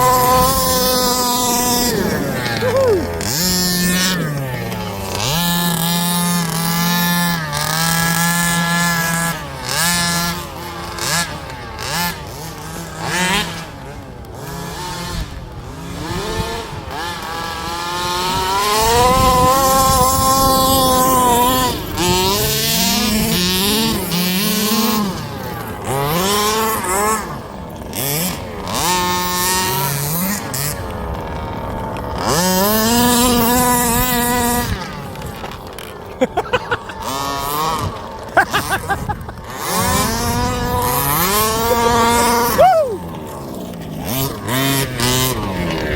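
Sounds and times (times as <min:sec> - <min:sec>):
small two-stroke engines revving: 0:00.0 - 0:45.9.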